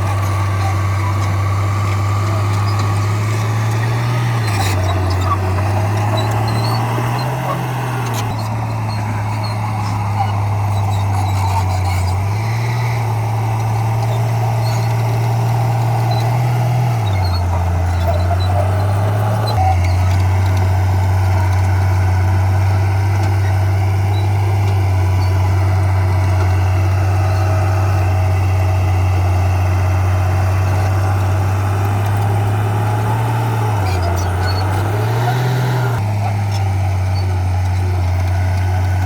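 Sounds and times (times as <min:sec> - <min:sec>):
diesel machinery engine droning: 0:00.0 - 0:39.0.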